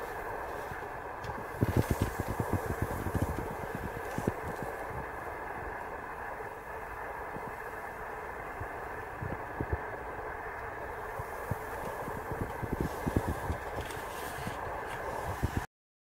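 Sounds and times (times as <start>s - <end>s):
low background rumble: 0.0s - 15.7s.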